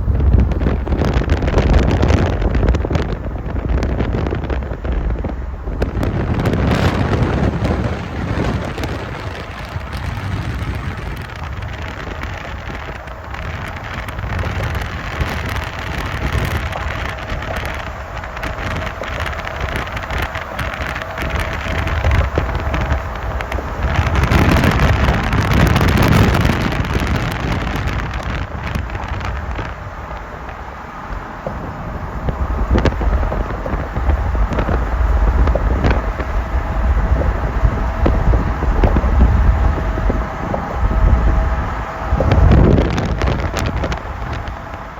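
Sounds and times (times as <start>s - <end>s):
moving vehicle rumble: 0.0s - 44.9s
wind buffeting microphone: 0.0s - 44.9s.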